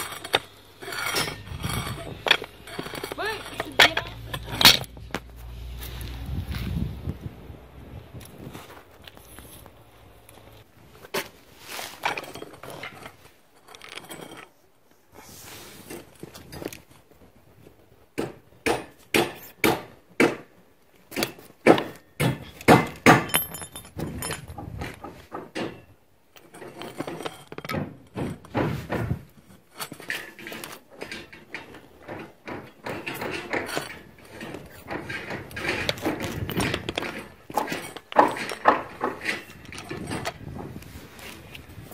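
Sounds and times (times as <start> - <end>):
scraping and rustling of handling: 0.0 - 7.3, 8.2 - 18.0, 20.9 - 41.9.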